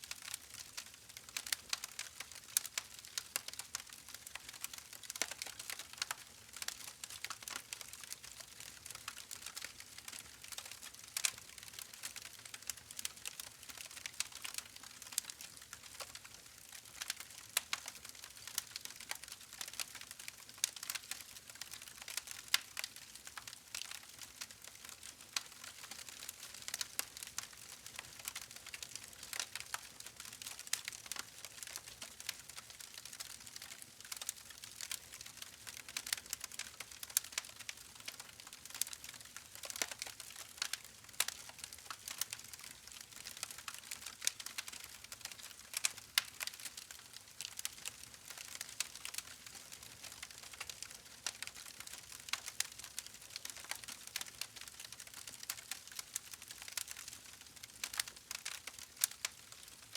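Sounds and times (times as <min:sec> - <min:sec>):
campfire crackling and popping: 0:00.2 - 0:59.9.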